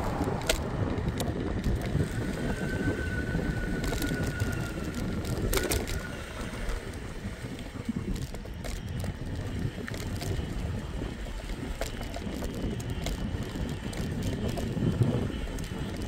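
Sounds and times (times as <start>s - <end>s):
scooter wheels rumbling: 0.0s - 16.0s
wind on microphone: 0.0s - 16.0s.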